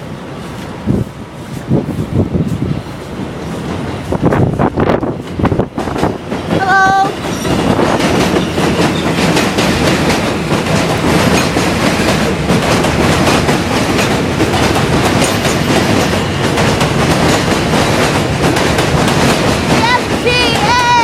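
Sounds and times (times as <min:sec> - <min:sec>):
train wheels clattering on track: 0:00.0 - 0:21.0.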